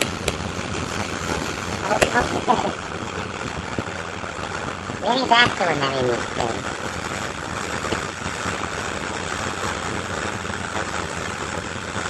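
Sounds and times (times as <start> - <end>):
firework fountain hissing: 0.0 - 12.0.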